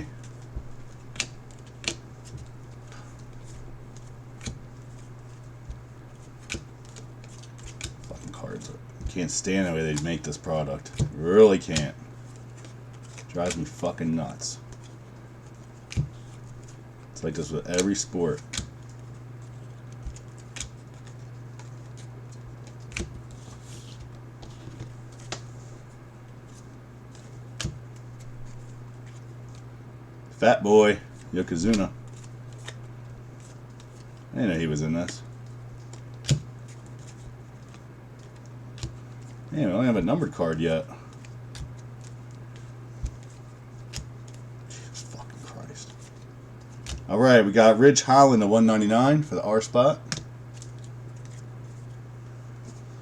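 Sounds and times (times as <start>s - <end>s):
cards rustling: 0.0s - 29.7s, 30.6s - 47.1s, 50.1s - 53.0s
steady low hum: 0.0s - 53.0s.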